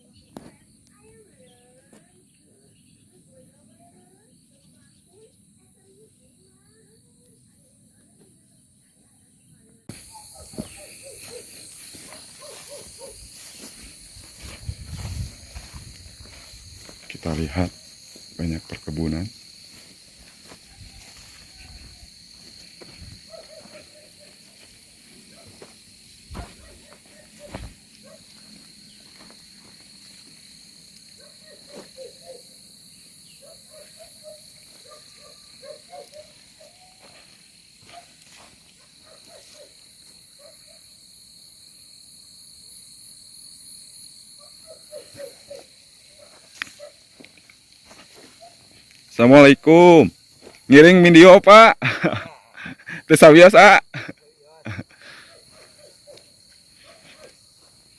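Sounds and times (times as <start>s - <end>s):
high-pitched insect drone: 9.9s - 57.9s.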